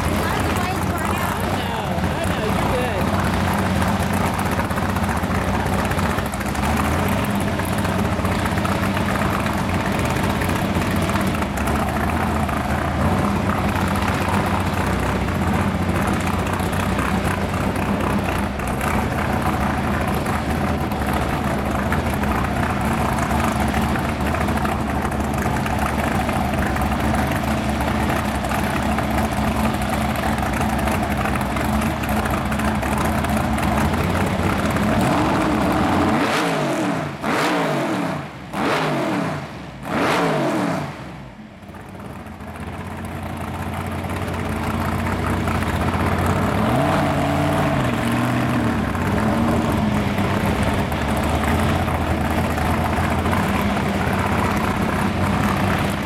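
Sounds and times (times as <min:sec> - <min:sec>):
vee eight engine idling: 0:00.0 - 0:36.4, 0:41.3 - 0:56.0.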